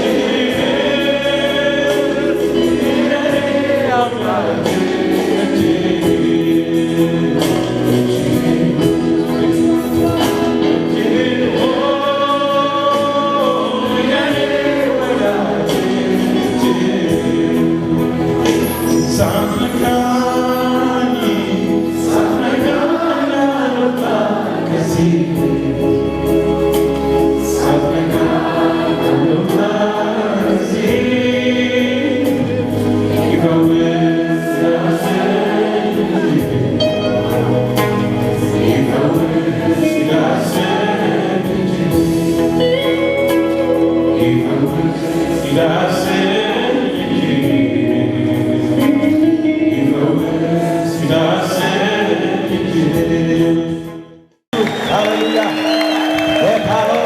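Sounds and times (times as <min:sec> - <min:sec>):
choir singing gospel song: 0:00.0 - 0:57.0
instrumental accompaniment: 0:00.0 - 0:57.0.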